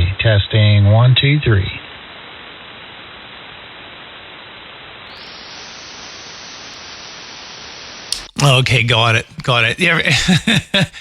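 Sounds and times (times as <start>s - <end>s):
radio receiver static hiss: 0.0s - 11.0s.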